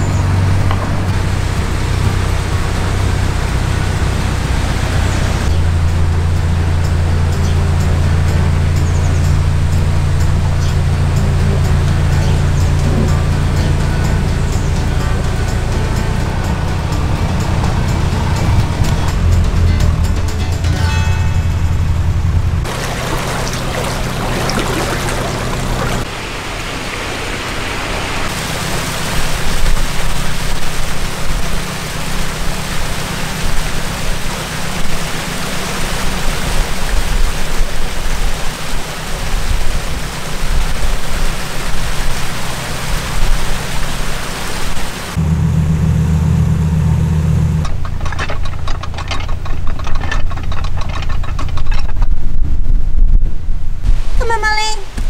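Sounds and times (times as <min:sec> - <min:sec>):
diesel engine running: 0:00.0 - 0:52.7.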